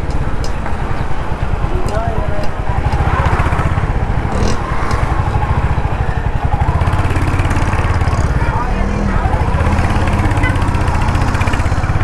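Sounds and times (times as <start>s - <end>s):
motorcycle engine thumping: 0.1s - 12.0s.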